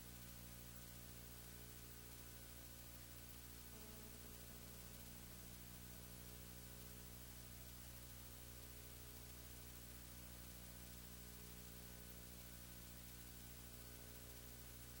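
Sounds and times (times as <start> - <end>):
constant hiss: 0.0 - 15.0
faint electrical hum: 0.0 - 15.0.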